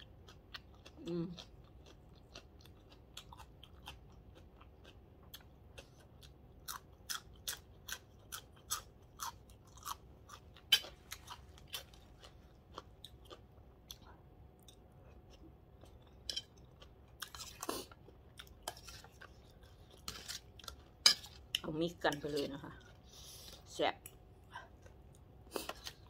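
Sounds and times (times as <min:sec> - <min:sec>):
chewing crunchy raw vegetable: 0:00.0 - 0:23.7.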